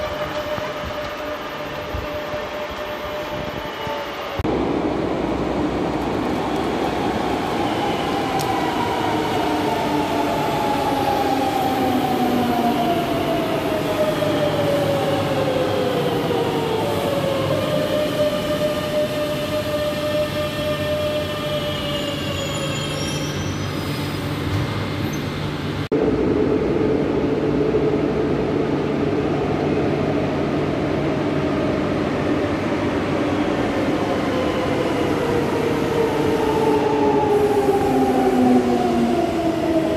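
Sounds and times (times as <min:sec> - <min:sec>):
electrical hum of train: 0:00.0 - 0:39.9.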